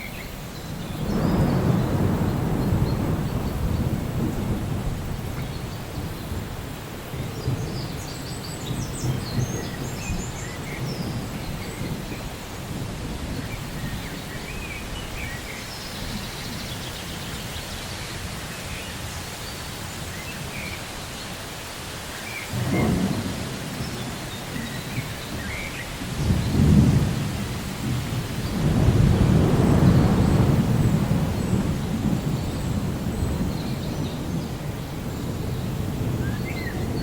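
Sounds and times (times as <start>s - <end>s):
rain hiss: 0.0s - 37.0s
distant thunder rumbling: 0.8s - 17.6s, 22.5s - 37.0s.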